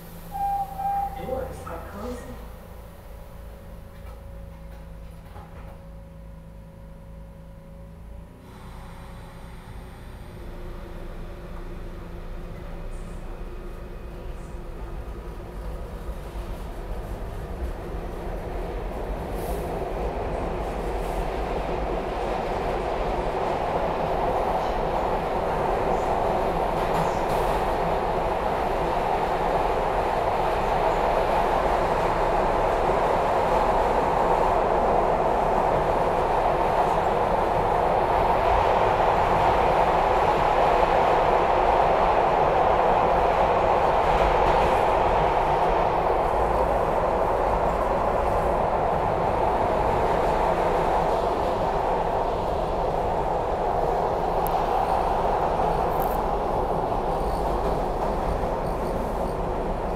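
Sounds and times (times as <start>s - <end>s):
subway train rumbling: 0.0s - 59.9s.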